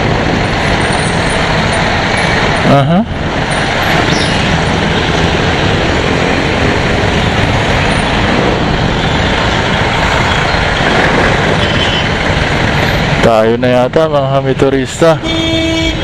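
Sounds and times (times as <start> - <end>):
surrounding traffic: 0.0 - 16.0
wind and road rush: 0.0 - 16.0.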